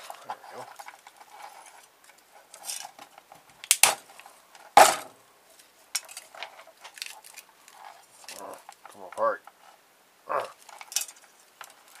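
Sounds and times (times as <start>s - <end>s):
handling noise: 0.0s - 9.8s.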